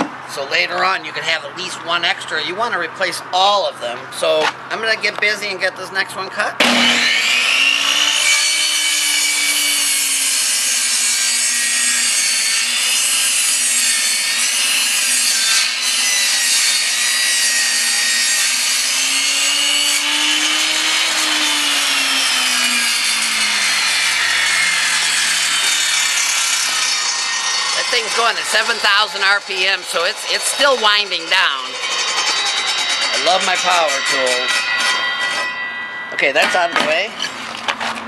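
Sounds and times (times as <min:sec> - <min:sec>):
table saw cutting plywood: 0:06.6 - 0:38.0.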